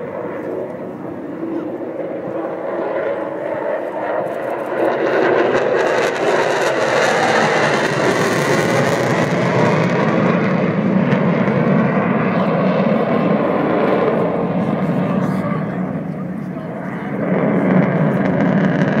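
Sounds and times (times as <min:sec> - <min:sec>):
jet engine roar overhead: 0:00.0 - 0:19.0.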